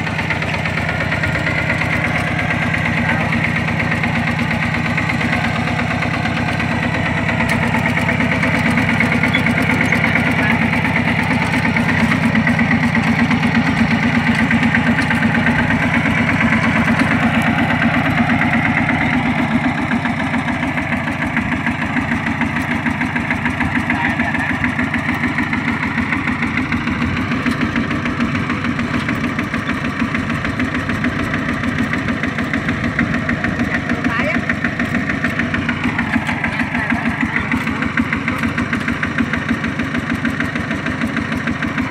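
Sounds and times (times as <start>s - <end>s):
diesel engine chugging: 0.0s - 41.9s.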